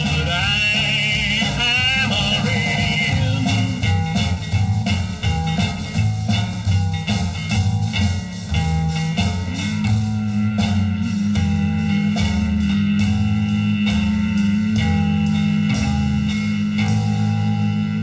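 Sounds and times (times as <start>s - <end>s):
rockabilly song from vinyl record: 0.0s - 18.0s.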